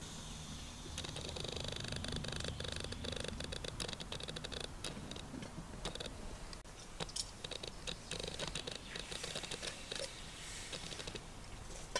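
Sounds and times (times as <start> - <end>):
light clicks and crackles: 1.0 - 11.9.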